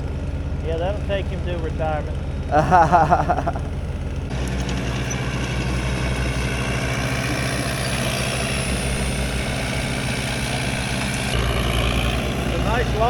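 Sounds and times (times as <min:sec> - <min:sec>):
heavy lift engine running: 0:00.0 - 0:13.0.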